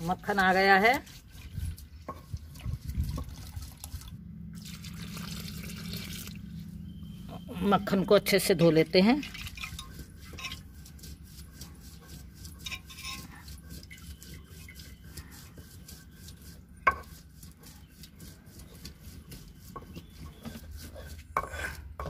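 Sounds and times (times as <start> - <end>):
faint wet rubbing: 0.0 - 4.1, 5.8 - 21.8.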